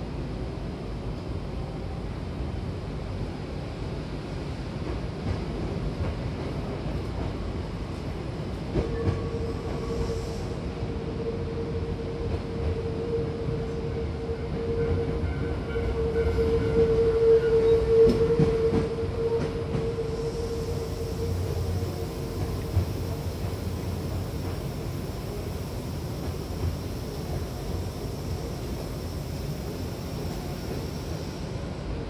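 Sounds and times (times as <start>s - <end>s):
steady train whine: 0.0s - 32.0s
train wheels rumbling: 3.6s - 32.0s.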